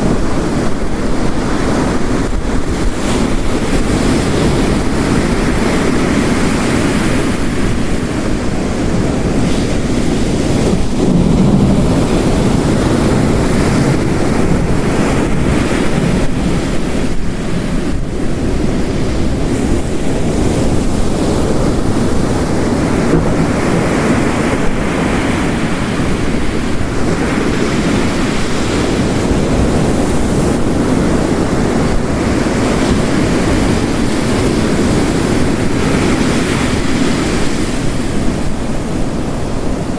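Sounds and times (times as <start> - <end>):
heavy rain: 0.0 - 39.9
ocean waves crashing: 0.0 - 39.9.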